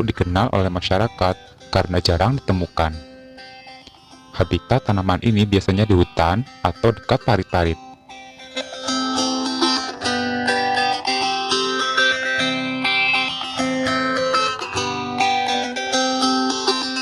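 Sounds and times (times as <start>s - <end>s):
guitar plucking a melody: 0.0s - 17.0s.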